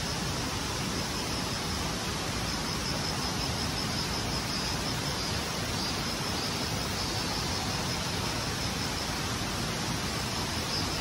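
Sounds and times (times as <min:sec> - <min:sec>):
insect trilling: 0:00.0 - 0:11.0
outdoor hiss: 0:00.0 - 0:11.0.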